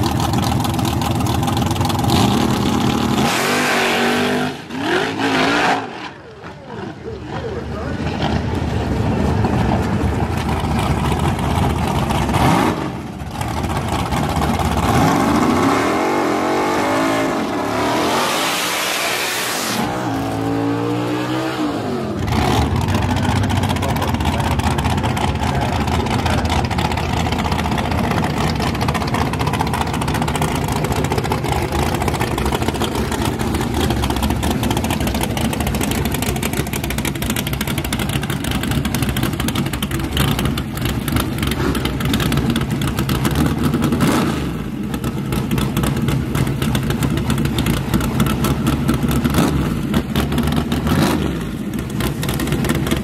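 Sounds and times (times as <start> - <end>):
truck engine revving and idling: 0.0 - 53.0.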